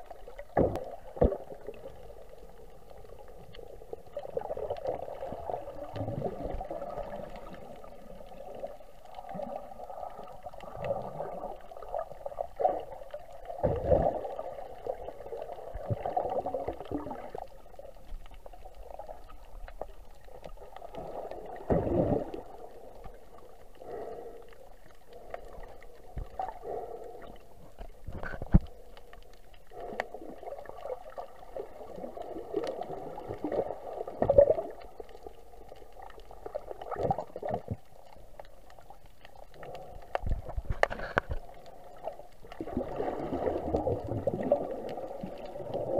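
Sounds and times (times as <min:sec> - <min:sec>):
underwater gurgling and rushing: 0:00.0 - 0:45.9.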